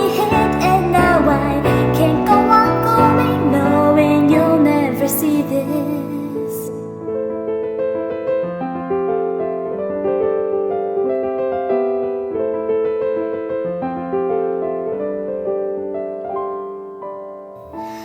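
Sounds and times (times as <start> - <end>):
solo piano: 0.0 - 18.0.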